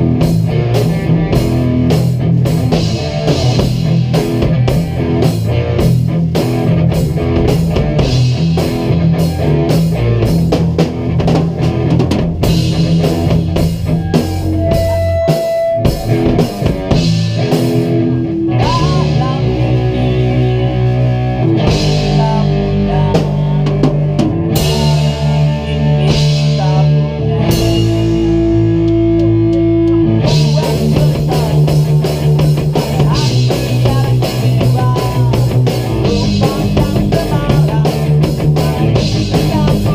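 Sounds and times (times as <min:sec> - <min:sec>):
drum kit with cymbals: 0:00.0 - 0:39.9
electric guitars playing chords: 0:00.0 - 0:39.9.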